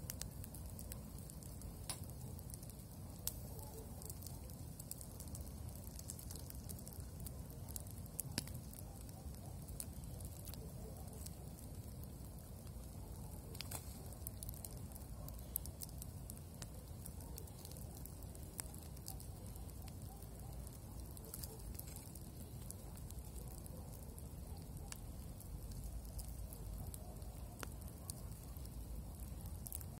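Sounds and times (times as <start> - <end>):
campfire crackling and popping: 0.0 - 30.0
fire low rumble: 0.0 - 30.0.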